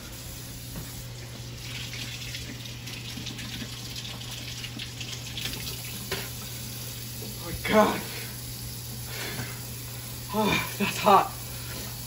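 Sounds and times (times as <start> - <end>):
faucet running into a sink: 0.0 - 12.0.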